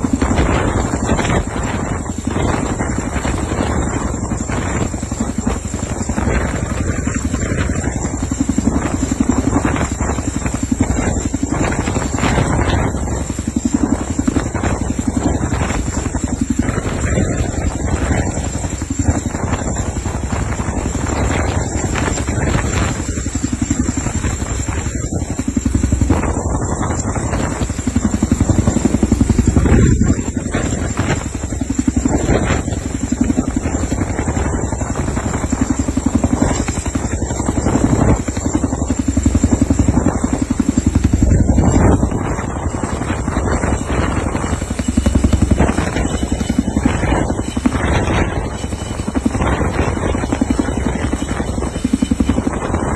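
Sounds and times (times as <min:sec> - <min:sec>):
helicopter rotor beating: 0:00.0 - 0:52.9.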